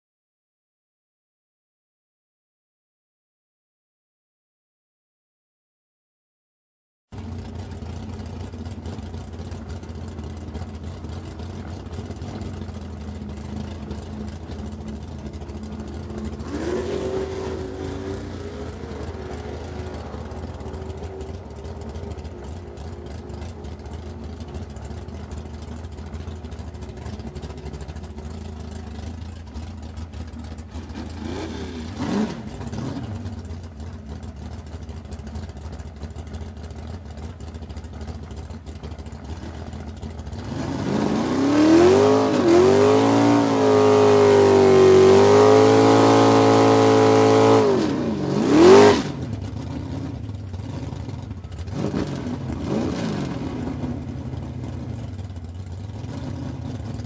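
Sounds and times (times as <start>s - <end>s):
car engine idling and revving: 7.1s - 57.0s.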